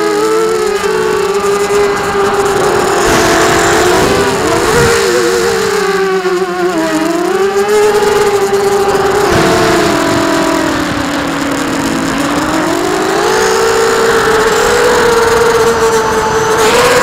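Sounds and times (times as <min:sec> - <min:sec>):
drone motors whining: 0:00.0 - 0:17.0
rushing noise: 0:00.0 - 0:17.0.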